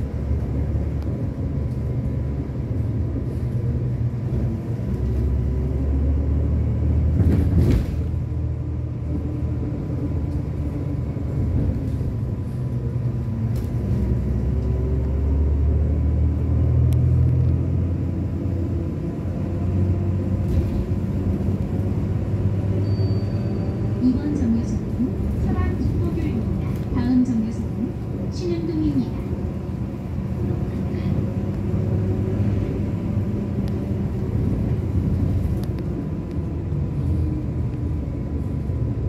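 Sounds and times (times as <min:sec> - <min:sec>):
bus engine rumble: 0:00.0 - 0:39.0
road noise: 0:00.0 - 0:39.0.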